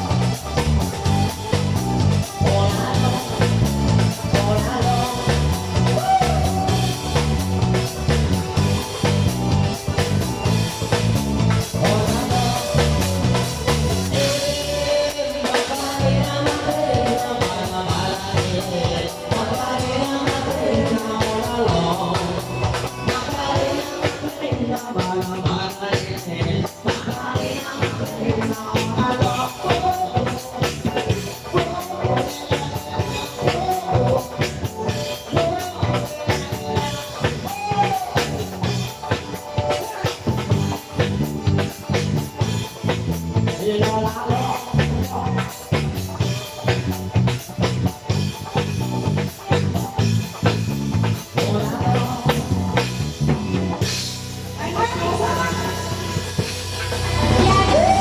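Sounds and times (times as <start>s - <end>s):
drum kit beat: 0.0s - 58.0s
rock band music: 0.0s - 58.0s.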